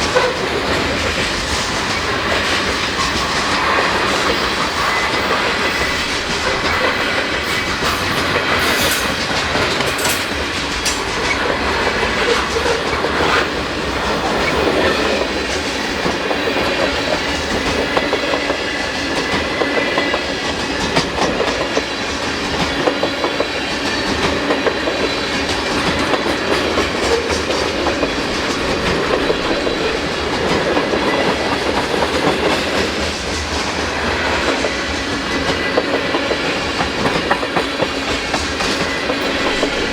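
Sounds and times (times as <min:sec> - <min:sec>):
train wheels clicking over rails: 0:00.0 - 0:39.9.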